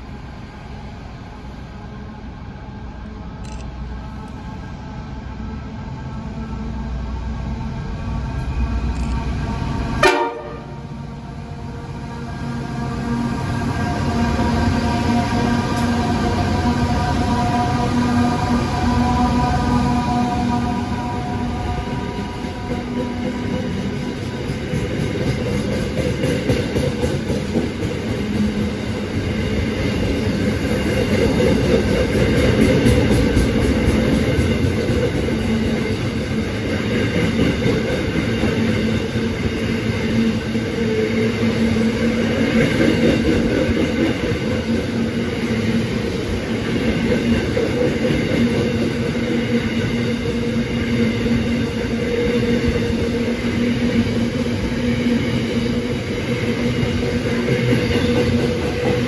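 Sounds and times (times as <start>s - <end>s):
low train hum: 0.0s - 59.0s
train wheels rumbling on track: 0.0s - 59.0s.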